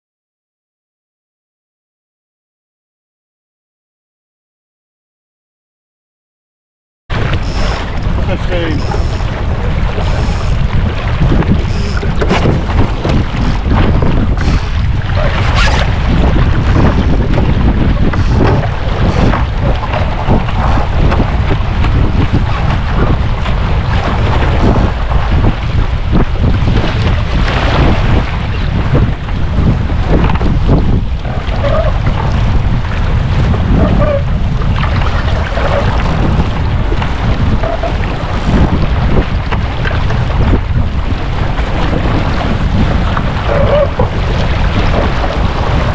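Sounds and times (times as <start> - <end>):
water splashing against hull: 7.1 - 45.9
wind rumbling on microphone: 7.1 - 45.9.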